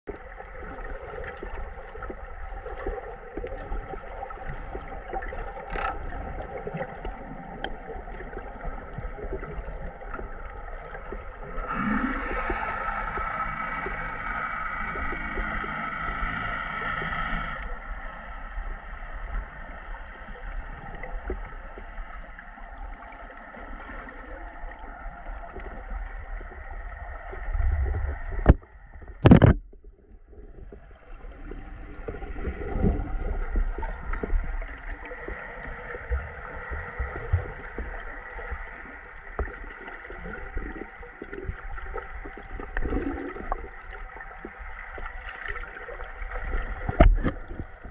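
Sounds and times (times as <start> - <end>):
underwater water noise: 0.0 - 47.9.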